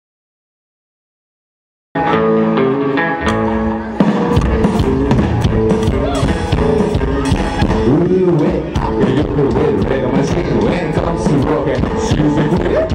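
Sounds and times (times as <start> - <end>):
rockabilly band playing: 2.0 - 12.9.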